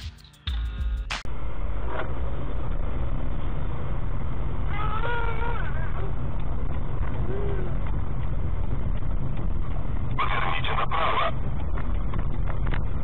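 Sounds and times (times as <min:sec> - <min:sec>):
car engine and tyres rumbling: 0:00.4 - 0:13.0.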